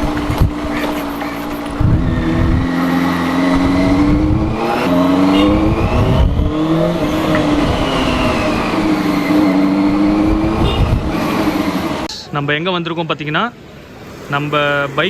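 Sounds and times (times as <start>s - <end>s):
motorcycle engine accelerating: 0.0s - 12.1s.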